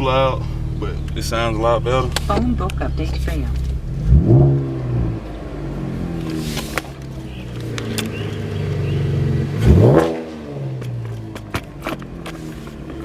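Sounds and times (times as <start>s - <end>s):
car engine droning and revving: 0.0s - 13.0s.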